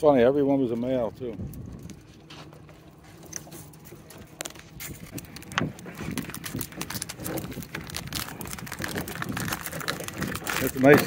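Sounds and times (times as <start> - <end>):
wire crab pot rattling: 0.0 - 11.0.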